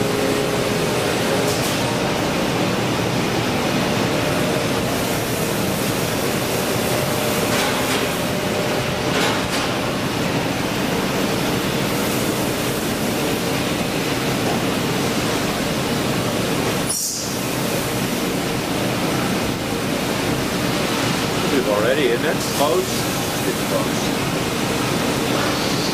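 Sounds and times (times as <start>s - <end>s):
industrial machinery hum: 0.0s - 25.9s.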